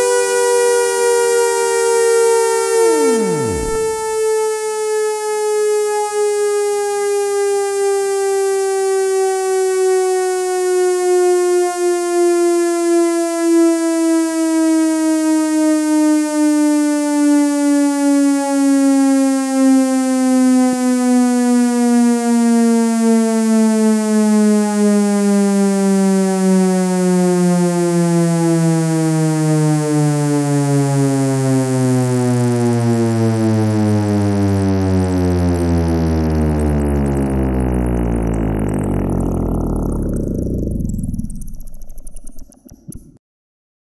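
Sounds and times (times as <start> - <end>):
siren winding down: 0.0 - 12.6, 16.9 - 43.0.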